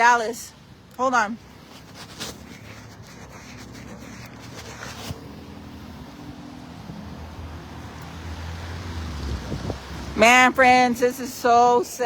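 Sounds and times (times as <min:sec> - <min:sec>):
idling vehicles humming: 0:00.6 - 0:12.0.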